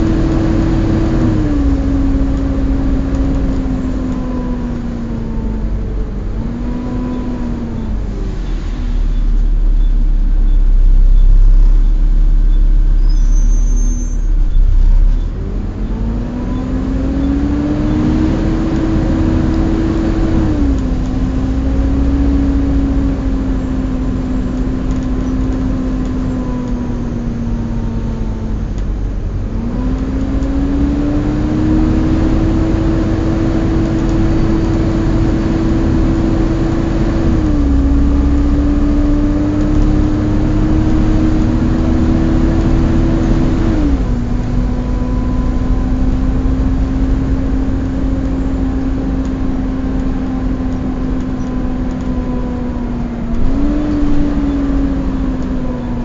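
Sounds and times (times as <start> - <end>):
bus engine cooling fan whining: 0.0 - 56.0
engine and road rumble: 0.0 - 56.0.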